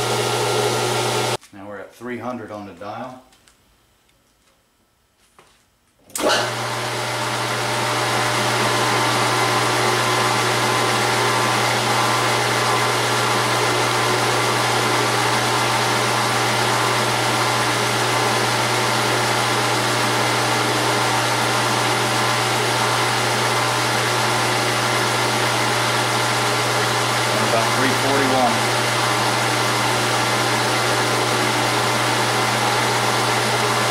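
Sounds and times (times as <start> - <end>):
metal lathe running: 0.0 - 1.4, 6.2 - 33.9.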